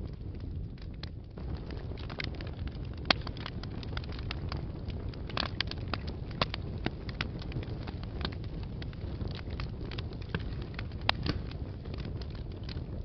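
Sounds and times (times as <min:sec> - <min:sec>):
low rumble of flames: 0:00.0 - 0:13.0
wood fire crackles and pops: 0:00.0 - 0:13.0.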